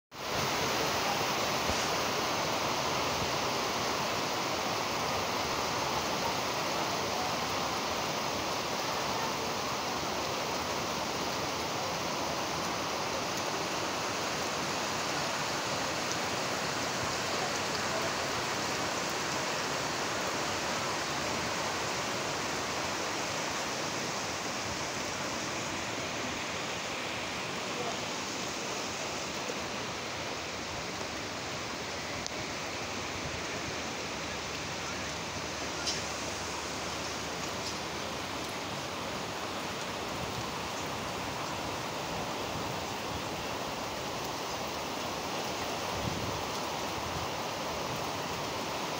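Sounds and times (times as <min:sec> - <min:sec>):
heavy rain: 0:00.1 - 0:48.9.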